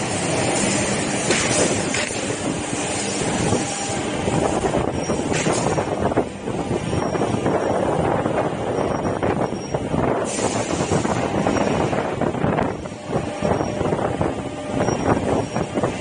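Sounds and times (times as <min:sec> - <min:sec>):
mechanical clatter: 0:00.0 - 0:16.0
woodworking machinery running: 0:00.0 - 0:16.0.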